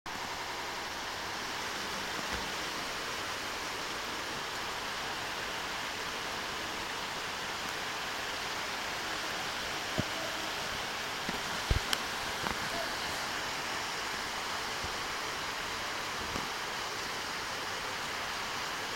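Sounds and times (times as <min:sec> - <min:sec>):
steady rushing noise: 0:00.1 - 0:18.9.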